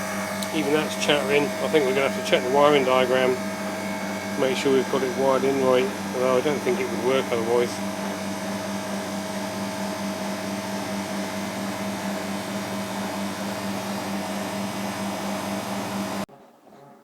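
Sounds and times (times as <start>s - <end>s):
compressor humming: 0.0s - 16.3s
fan rushing air: 0.0s - 16.3s.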